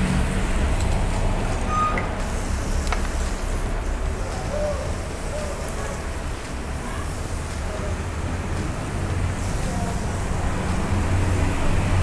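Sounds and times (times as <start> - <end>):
restaurant background rumble: 0.0 - 12.0.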